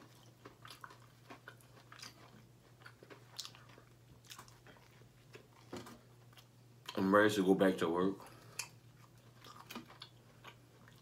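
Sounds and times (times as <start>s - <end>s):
bread torn and chewed: 0.0s - 7.0s, 8.5s - 11.0s
low steady hum: 0.0s - 11.0s.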